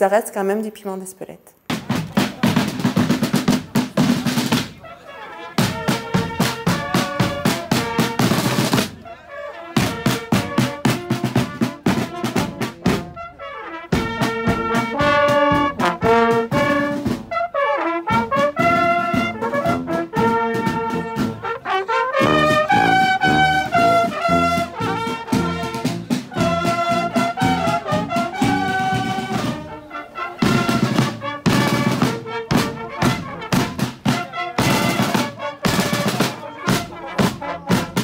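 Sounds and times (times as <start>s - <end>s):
drums beating fast rhythm: 1.7s - 38.0s
trumpets and sousaphone playing: 2.4s - 38.0s.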